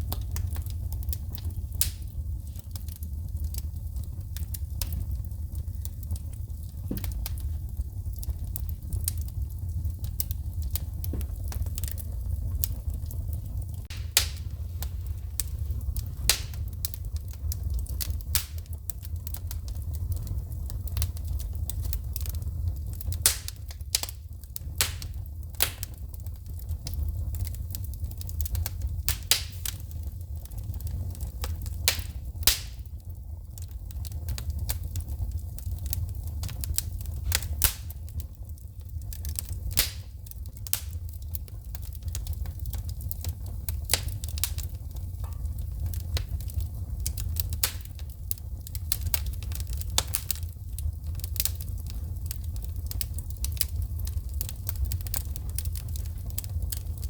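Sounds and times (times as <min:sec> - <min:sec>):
fire rumbling: 0:00.0 - 0:57.0
wood fire popping and crackling: 0:00.0 - 0:57.0.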